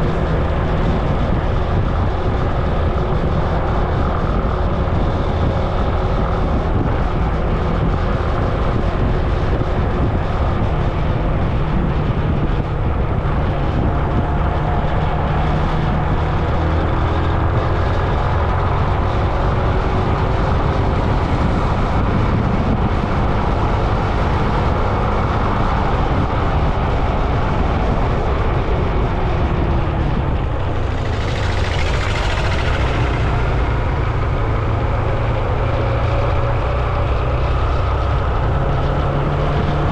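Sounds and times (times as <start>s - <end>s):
engine droning: 0.0s - 39.9s
wind and tyre road noise: 0.0s - 39.9s.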